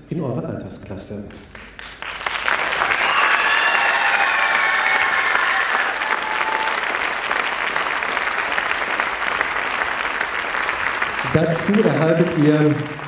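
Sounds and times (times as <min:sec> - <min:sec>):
audience applauding: 0:01.5 - 0:13.0.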